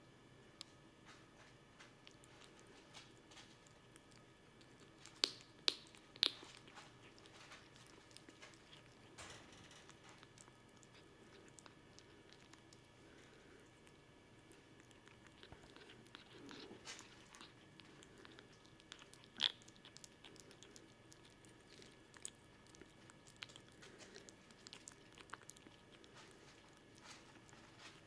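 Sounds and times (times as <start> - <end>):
kitten eating wet food: 0.6 - 28.0.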